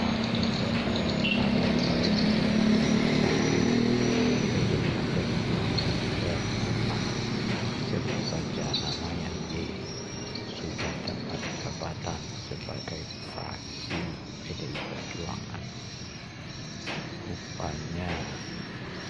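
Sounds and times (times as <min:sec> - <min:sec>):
car engine humming: 0:00.0 - 0:19.0
street traffic noise: 0:00.0 - 0:19.0.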